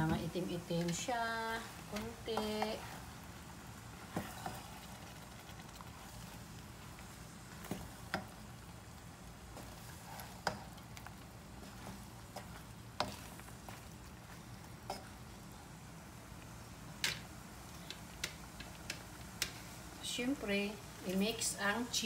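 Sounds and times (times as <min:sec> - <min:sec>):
faint sizzle: 0:00.0 - 0:22.0
utensil stirring in frying pan: 0:00.0 - 0:22.0.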